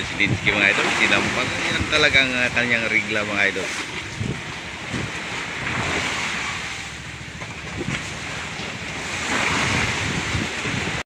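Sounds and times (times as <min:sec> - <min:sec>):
waves splashing against boat hull: 0:00.0 - 0:11.0
wind buffeting microphone: 0:00.0 - 0:11.0.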